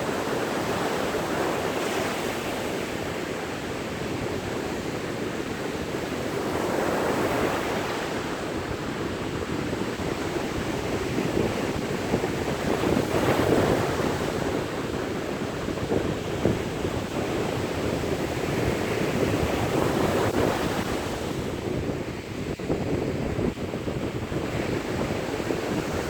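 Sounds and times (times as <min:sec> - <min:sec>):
sea waves breaking on beach: 0:00.0 - 0:26.0
wind on microphone: 0:00.0 - 0:26.0.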